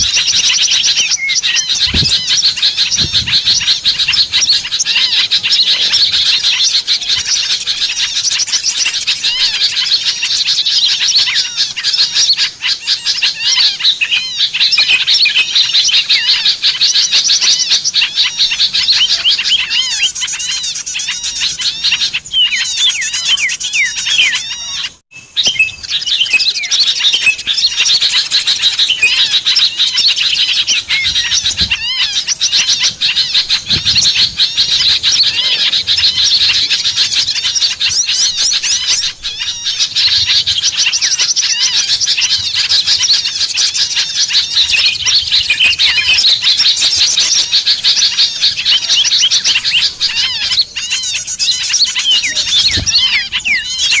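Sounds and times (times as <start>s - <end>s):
small birds twittering: 0.0s - 54.0s.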